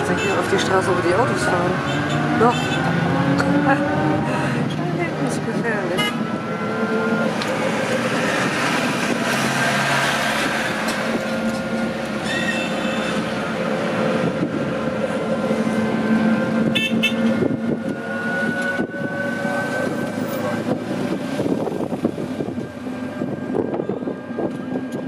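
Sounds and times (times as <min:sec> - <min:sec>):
road noise: 0:00.0 - 0:25.0
tuk-tuk motor running: 0:00.0 - 0:25.0.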